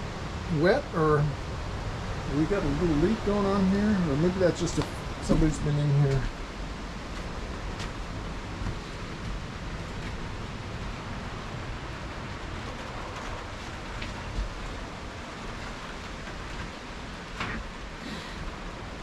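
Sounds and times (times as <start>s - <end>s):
blowing rain: 0.0s - 19.0s
wind: 0.0s - 19.0s
wind rumbling on microphone: 0.0s - 19.0s.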